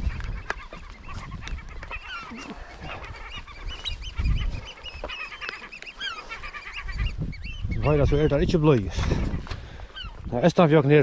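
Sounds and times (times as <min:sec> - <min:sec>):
wind rumbling on microphone: 0:00.0 - 0:05.1, 0:06.2 - 0:10.6
gulls calling: 0:00.0 - 0:11.0.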